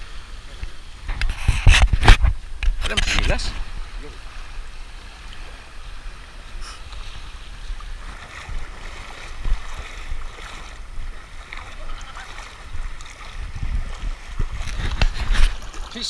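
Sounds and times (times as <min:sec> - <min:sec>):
seawater splashing and lapping: 0:00.0 - 0:16.0
wind rumbling on microphone: 0:00.0 - 0:16.0.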